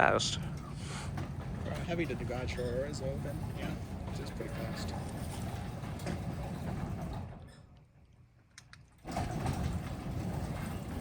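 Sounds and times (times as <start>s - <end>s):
garage door opener running: 0.4s - 7.9s, 8.9s - 11.0s.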